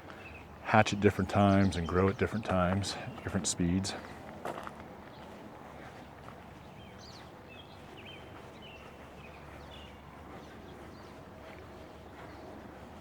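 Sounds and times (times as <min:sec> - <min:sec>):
distant highway traffic rumble: 0:00.0 - 0:13.0.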